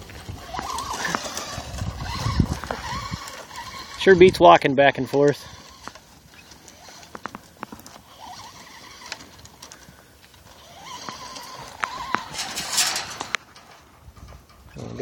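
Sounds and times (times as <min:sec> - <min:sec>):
cattle hooves clopping on ground: 0:00.0 - 0:14.7.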